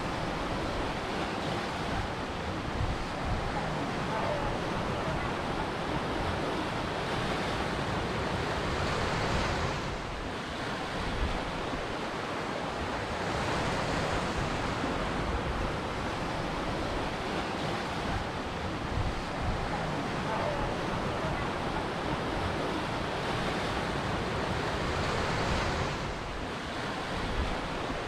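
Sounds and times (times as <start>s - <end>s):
ocean surf washing on shore: 0.0s - 28.0s.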